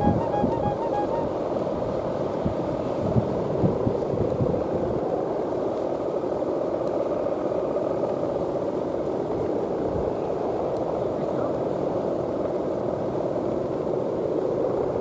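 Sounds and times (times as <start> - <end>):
kite hummer droning: 0.0 - 15.0
low wind rumble: 0.0 - 15.0.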